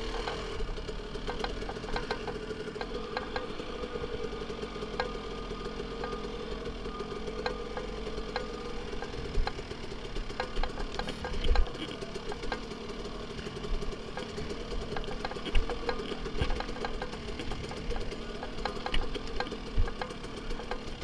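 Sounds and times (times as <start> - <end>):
dirt bike engine at low revs: 0.0 - 21.0
rocks and chassis knocking: 0.3 - 3.8, 5.8 - 21.0.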